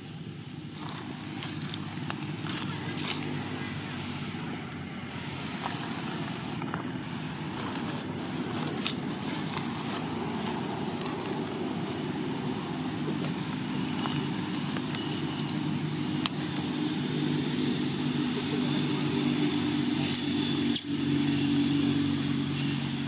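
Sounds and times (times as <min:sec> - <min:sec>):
vehicle engine droning: 0:00.0 - 0:23.0.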